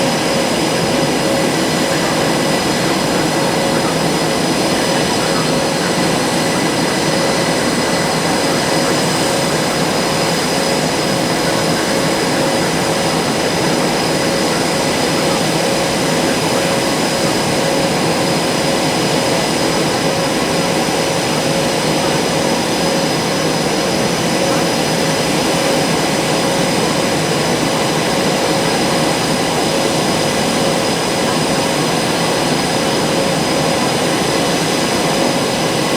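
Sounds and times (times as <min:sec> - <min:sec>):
high turbine whine: 0:00.0 - 0:35.9
jet engines roaring: 0:00.0 - 0:35.9.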